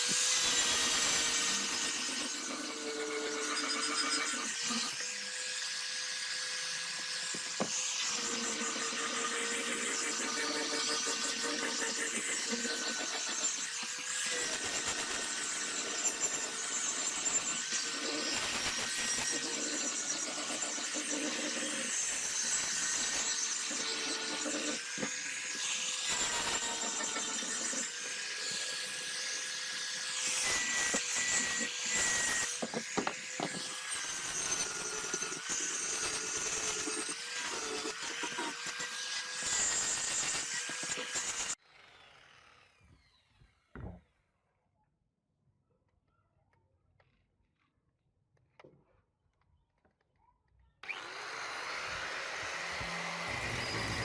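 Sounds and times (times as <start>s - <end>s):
electric power tool motor humming: 0.0s - 43.4s, 50.8s - 54.0s.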